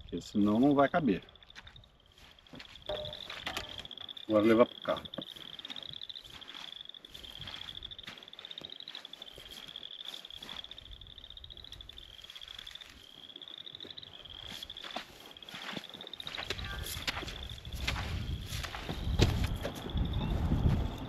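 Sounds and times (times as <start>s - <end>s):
frogs trilling: 0.0s - 21.0s
footsteps in dry grass: 0.3s - 21.0s
rustling through dry grass: 1.5s - 4.2s, 5.3s - 21.0s.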